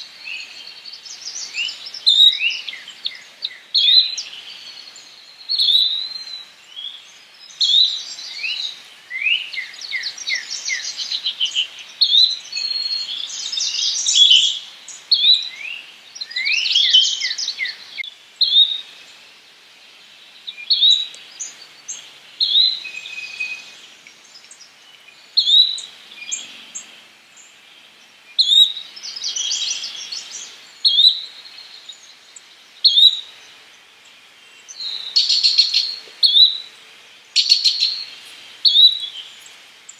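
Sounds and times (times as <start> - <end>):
songbird trilled song: 0.2 - 18.8, 20.4 - 36.7, 37.4 - 39.9.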